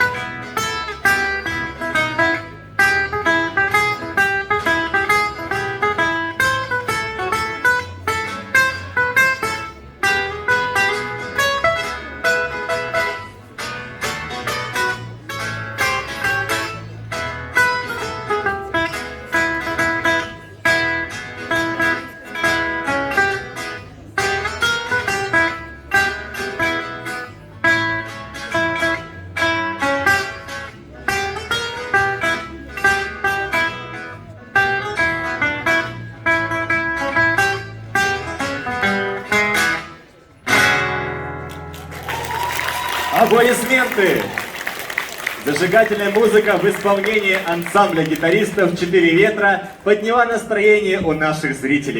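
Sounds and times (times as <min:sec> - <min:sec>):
guitars playing rock and roll: 0:00.0 - 0:51.9.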